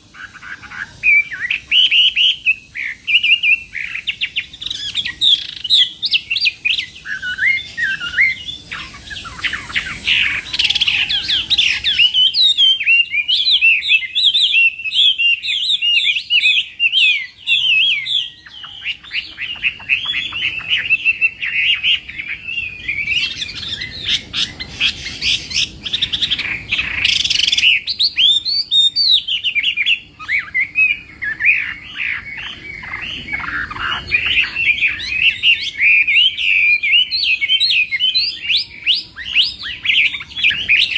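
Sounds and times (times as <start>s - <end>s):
bird singing whistled trills: 0.0s - 40.9s.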